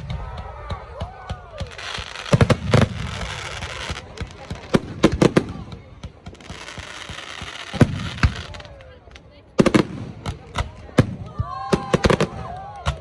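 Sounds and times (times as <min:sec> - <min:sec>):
crackling hiss of fireworks: 0:00.0 - 0:13.0
fireworks bangs: 0:00.0 - 0:13.0.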